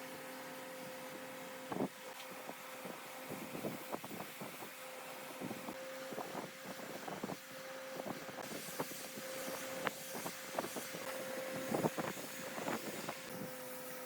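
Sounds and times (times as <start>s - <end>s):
small motor humming: 0.0s - 14.0s.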